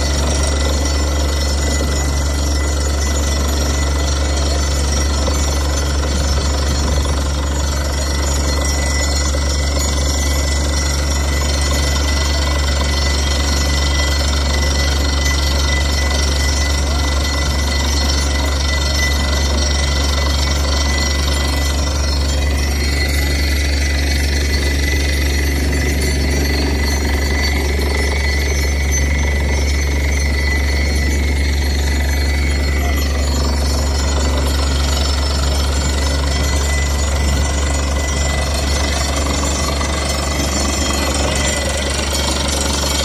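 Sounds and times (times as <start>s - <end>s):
drilling rig running: 0.0s - 43.0s.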